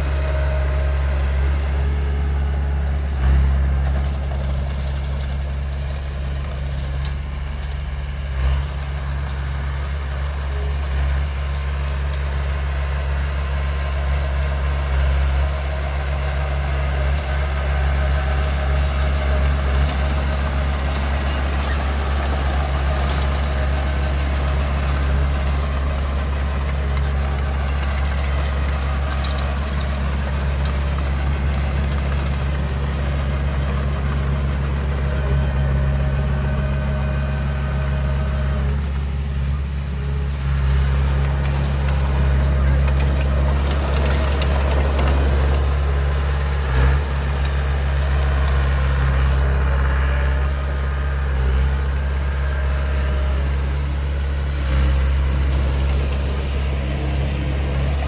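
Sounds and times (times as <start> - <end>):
diesel machinery rumbling: 0.0 - 58.0.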